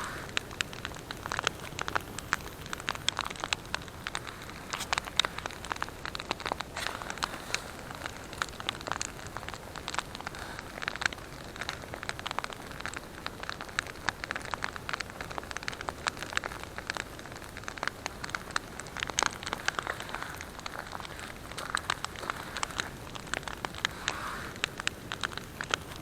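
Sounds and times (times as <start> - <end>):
soft hiss: 0.0 - 13.4, 14.1 - 26.0
campfire crackling: 0.0 - 26.0.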